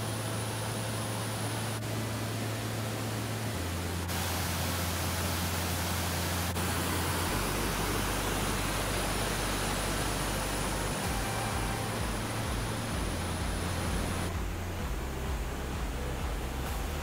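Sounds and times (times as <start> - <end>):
waterfall rushing over rock: 0.0 - 17.0.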